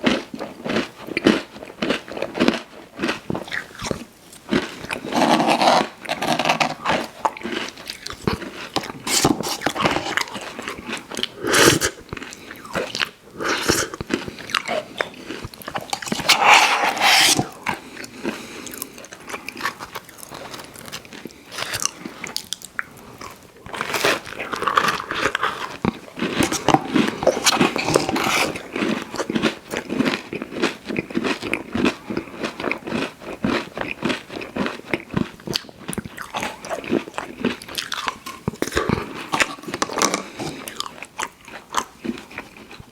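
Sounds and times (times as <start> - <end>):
crisp pie crust crunching: 0.1 - 42.9
wet mouth sounds: 3.3 - 30.0, 35.0 - 42.9.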